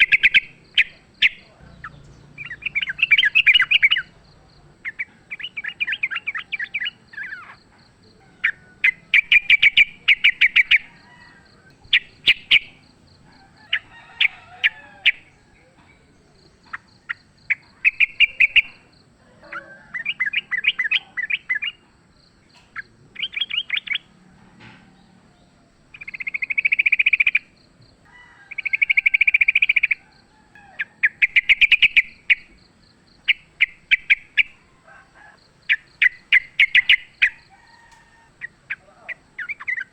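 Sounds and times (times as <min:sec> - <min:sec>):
bird chattering trills: 0:00.0 - 0:24.1, 0:25.9 - 0:27.5, 0:30.6 - 0:39.9.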